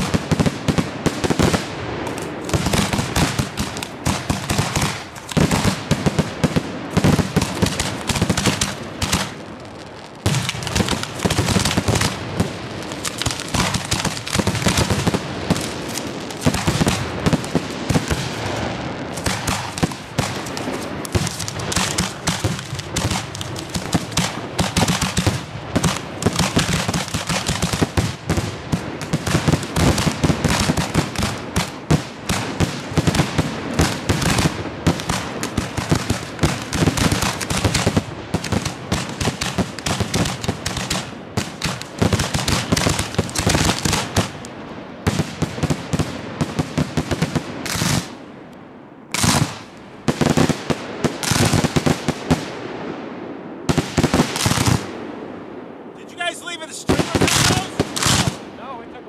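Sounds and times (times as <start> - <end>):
fireworks bangs: 0.0 - 59.0.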